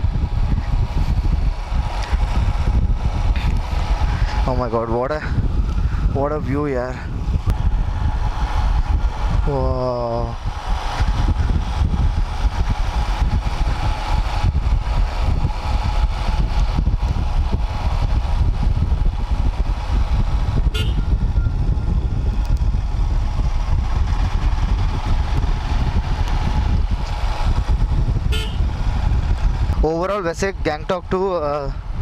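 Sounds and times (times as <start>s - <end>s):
constant rushing noise: 0.0s - 32.0s
motorcycle engine rumbling: 0.0s - 32.0s.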